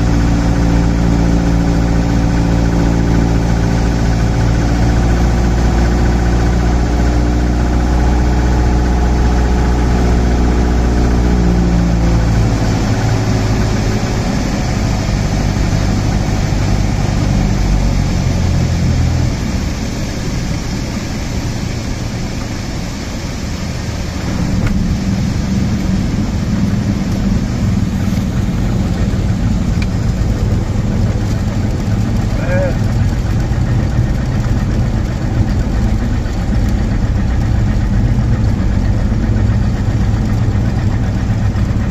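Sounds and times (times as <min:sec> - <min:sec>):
light aircraft engine drone: 0:00.0 - 0:41.9.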